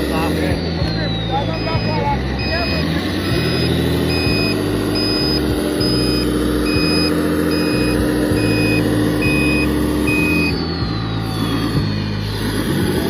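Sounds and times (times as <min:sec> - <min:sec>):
electric motor whine: 0:00.0 - 0:13.0
low engine-like rumble: 0:00.0 - 0:13.0
reversing beeper beeping: 0:00.0 - 0:13.0.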